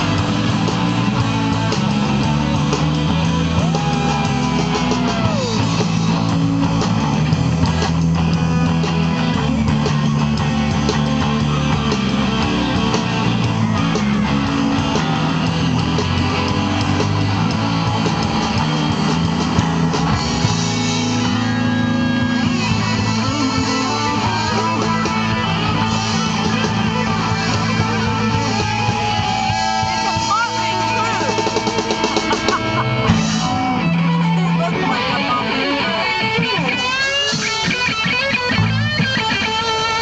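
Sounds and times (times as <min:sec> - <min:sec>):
bass guitar: 0:00.0 - 0:40.0
drum kit: 0:00.0 - 0:40.0
electric guitars: 0:00.0 - 0:40.0.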